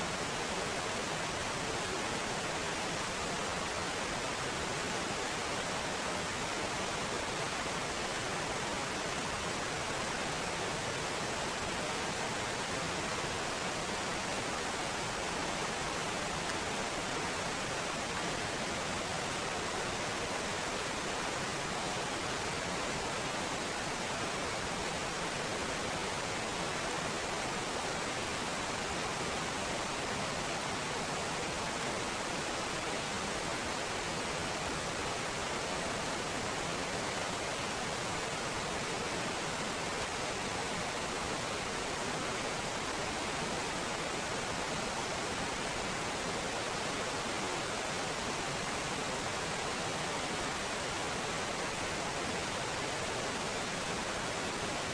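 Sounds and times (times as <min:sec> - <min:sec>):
water cascading over boulders: 0:00.0 - 0:54.9.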